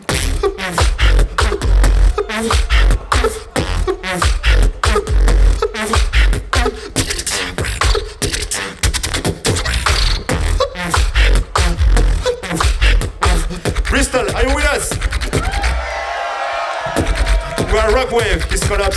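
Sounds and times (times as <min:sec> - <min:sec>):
beatboxing into microphones: 0:00.0 - 0:16.0, 0:16.9 - 0:18.9.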